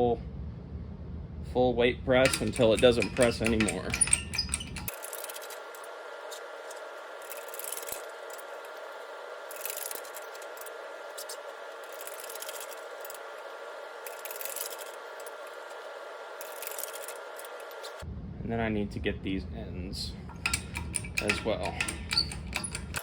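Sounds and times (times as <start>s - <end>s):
press rattling and scraping metal: 2.2s - 18.0s, 20.2s - 23.0s.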